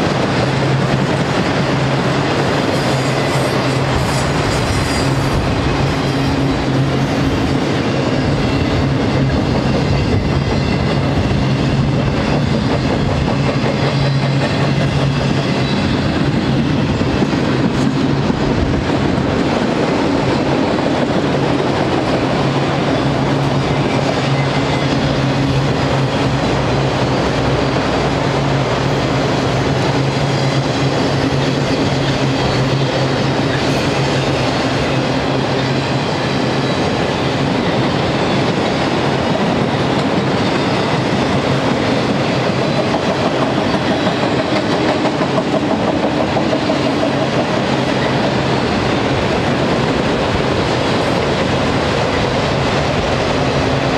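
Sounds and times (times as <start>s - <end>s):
clickety-clack of rail joints: 0.0s - 53.9s
train wheels rumbling on rails: 0.0s - 53.9s.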